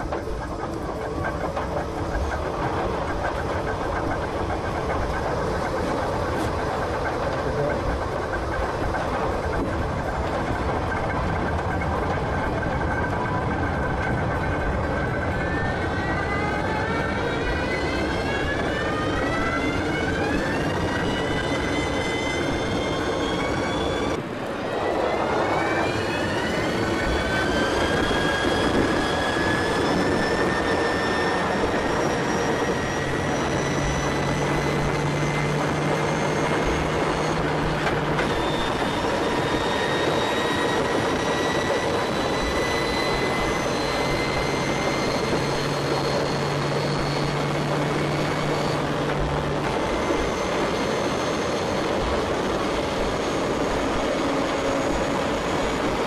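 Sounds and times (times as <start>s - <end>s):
electric drive whine: 0.0s - 56.0s
steady low hum: 0.0s - 56.0s.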